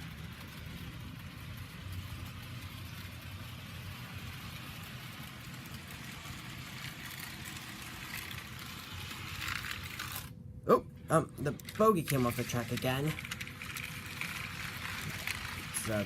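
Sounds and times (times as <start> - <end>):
model train running on track: 0.0 - 10.3, 11.1 - 16.0.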